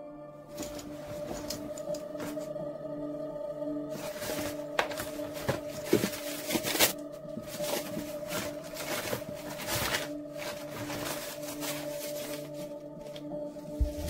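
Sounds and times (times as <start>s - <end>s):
low musical drone: 0.0s - 14.0s
books being handled: 0.6s - 2.5s, 3.9s - 14.0s
paper rustling: 0.6s - 2.5s, 3.9s - 14.0s.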